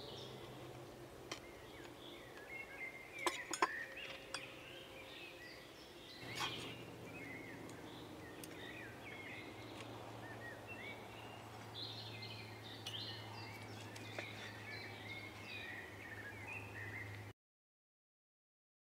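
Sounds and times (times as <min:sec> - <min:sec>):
birds chirping: 0:00.0 - 0:17.3.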